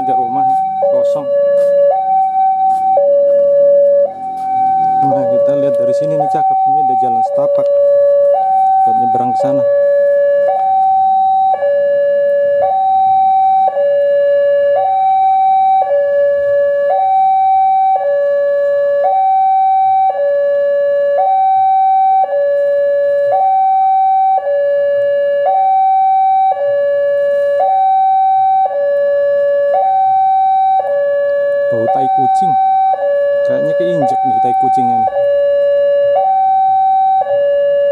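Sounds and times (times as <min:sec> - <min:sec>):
level crossing two-tone alarm: 0:00.0 - 0:37.9.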